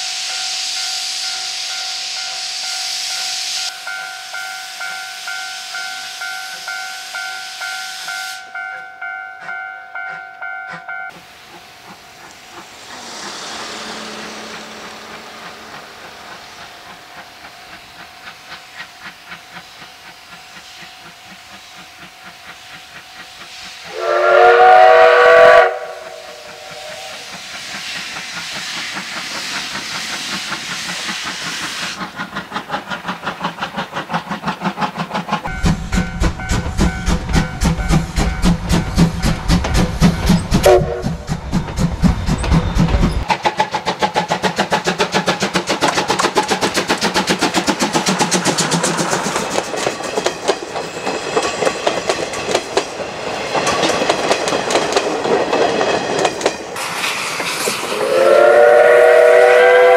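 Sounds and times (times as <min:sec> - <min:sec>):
steam hissing: 0:00.0 - 0:08.6, 0:11.1 - 0:59.9
train wheels beating on rails: 0:00.0 - 0:59.9.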